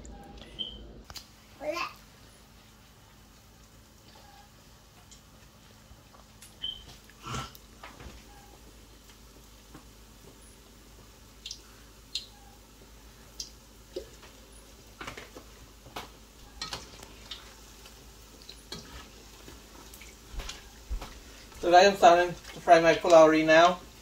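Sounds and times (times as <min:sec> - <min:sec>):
batter sizzling in oil: 0:01.0 - 0:24.0.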